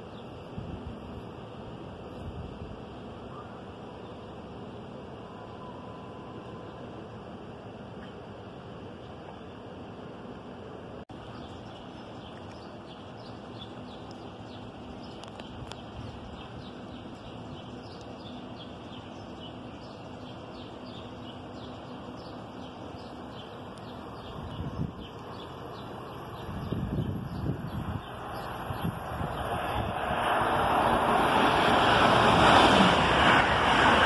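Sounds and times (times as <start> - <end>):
outdoor background hum: 0.0 - 34.0.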